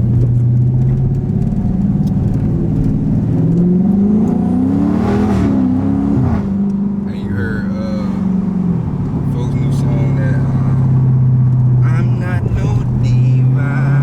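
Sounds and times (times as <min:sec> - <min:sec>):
car exhaust revving: 0:00.0 - 0:14.0.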